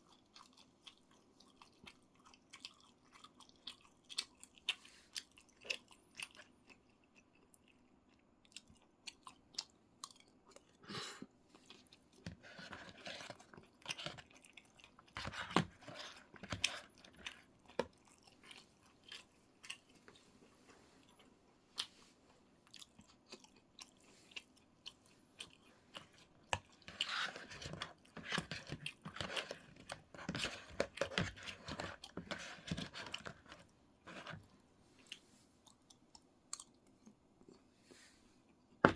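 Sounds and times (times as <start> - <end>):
close-up chewing of food: 0.0 - 37.7.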